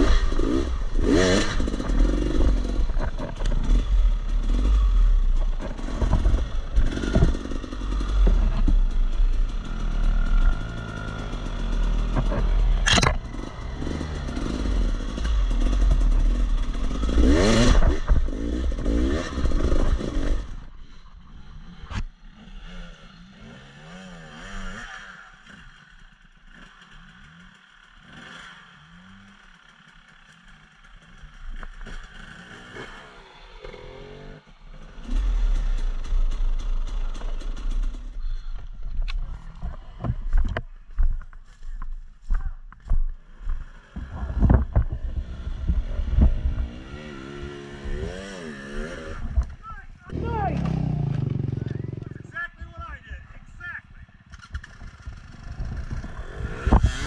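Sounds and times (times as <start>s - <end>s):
dirt bike engine revving: 0.0s - 40.4s, 45.1s - 52.8s, 54.2s - 57.0s
clatter and scraping on rough trail: 0.0s - 52.8s, 54.2s - 57.0s.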